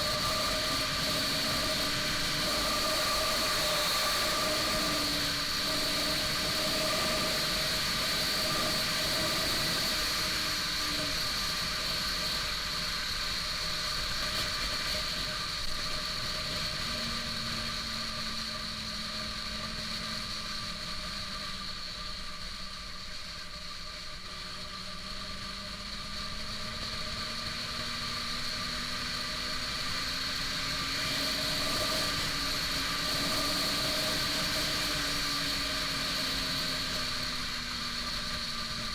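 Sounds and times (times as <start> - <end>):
wind and road noise: 0.0 - 22.9, 23.5 - 38.9
motorcycle engine running: 0.0 - 38.9.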